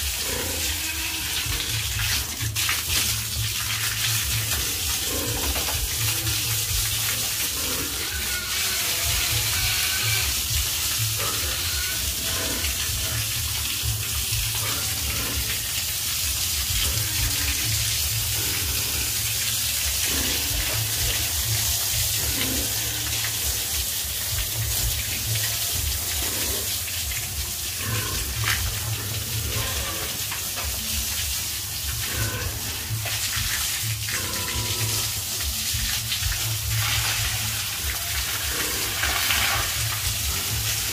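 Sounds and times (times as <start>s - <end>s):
hose water spraying on concrete: 0.0s - 40.9s.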